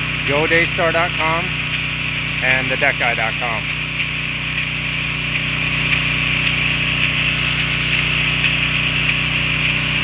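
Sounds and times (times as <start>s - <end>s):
pressure washer engine running: 0.0s - 10.0s
water spraying hiss: 0.6s - 10.0s.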